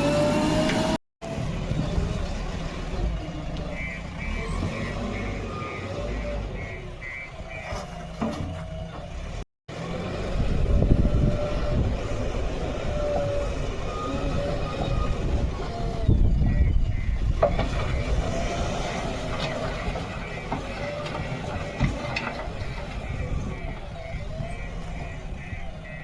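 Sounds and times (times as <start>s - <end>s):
diesel machinery engines rumbling: 0.0s - 26.0s.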